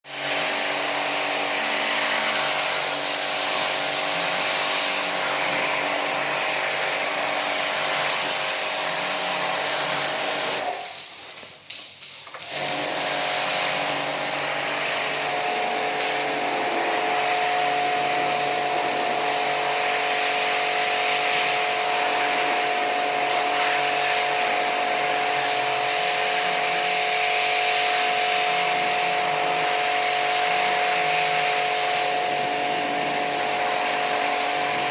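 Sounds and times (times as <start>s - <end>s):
pressure washer motor whine: 0.1s - 10.8s, 12.5s - 34.9s.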